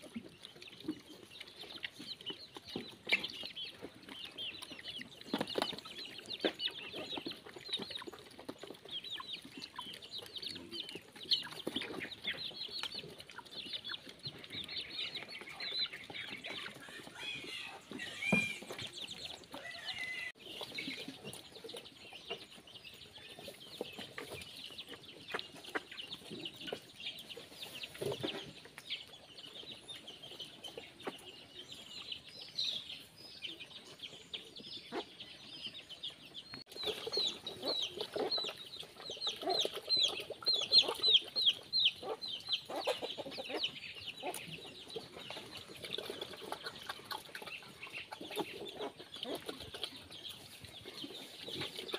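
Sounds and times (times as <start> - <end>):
chickens clucking: 0.0 - 51.9
pigs chewing: 0.0 - 51.9.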